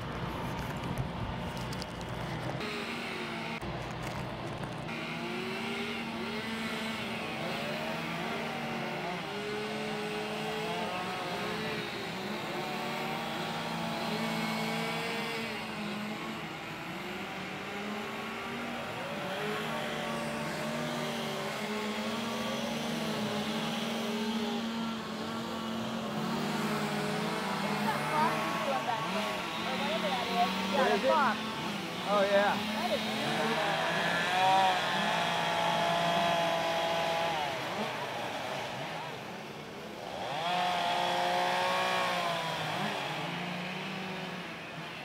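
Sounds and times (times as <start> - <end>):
small motors wavering in pitch: 0.0 - 45.0.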